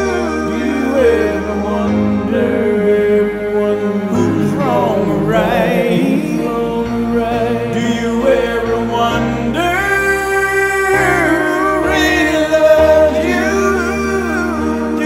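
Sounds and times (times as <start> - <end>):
song with held chords and melody: 0.0 - 15.0.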